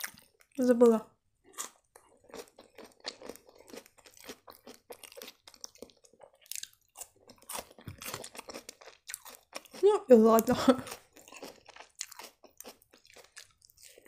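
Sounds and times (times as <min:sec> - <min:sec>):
person chewing crunchy food: 0:00.0 - 0:00.6, 0:01.4 - 0:10.0, 0:10.7 - 0:14.0.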